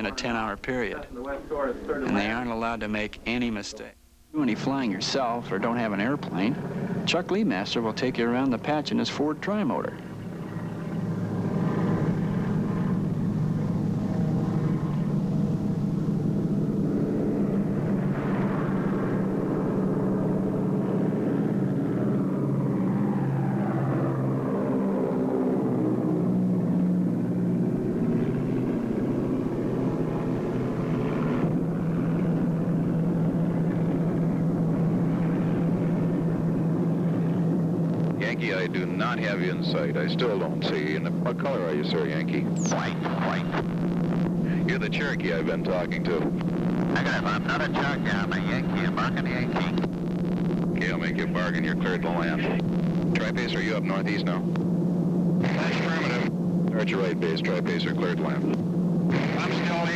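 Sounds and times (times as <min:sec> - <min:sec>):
propeller plane engines droning: 0:00.0 - 0:59.9.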